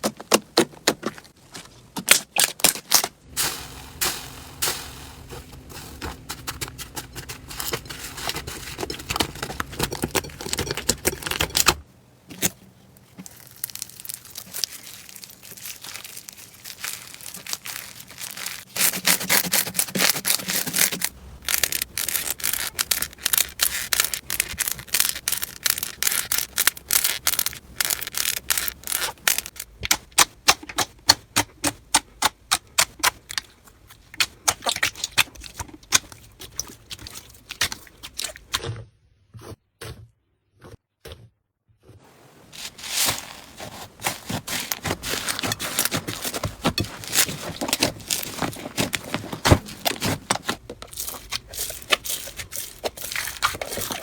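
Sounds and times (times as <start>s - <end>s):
slime squishing and crackling: 4.0s - 38.7s, 42.5s - 54.0s.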